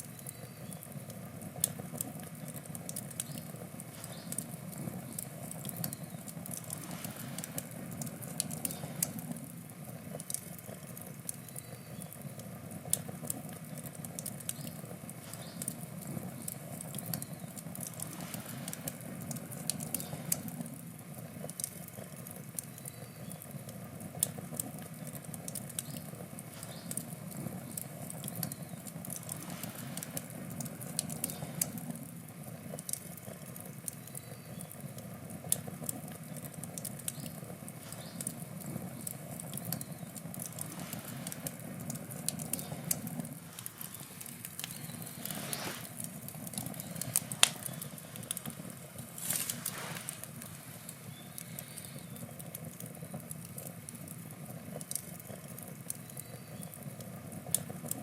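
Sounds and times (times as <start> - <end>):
campfire crackling and popping: 0.0 - 58.0
hissing flare-ups: 0.0 - 58.0.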